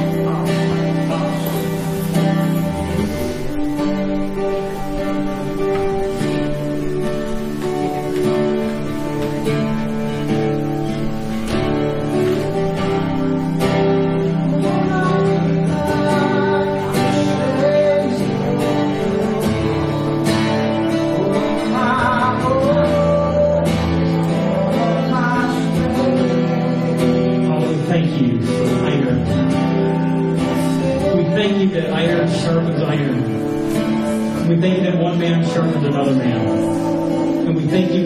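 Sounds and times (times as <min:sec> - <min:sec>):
person singing: 0:00.0 - 0:38.0
strummed acoustic guitar: 0:00.0 - 0:38.0.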